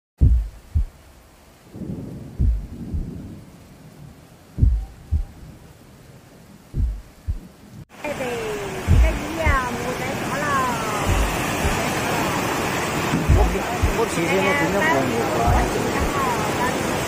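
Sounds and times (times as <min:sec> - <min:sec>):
wind buffeting microphone: 0:00.2 - 0:07.8, 0:08.8 - 0:14.4, 0:15.1 - 0:17.0
floodwater rushing: 0:00.2 - 0:17.0.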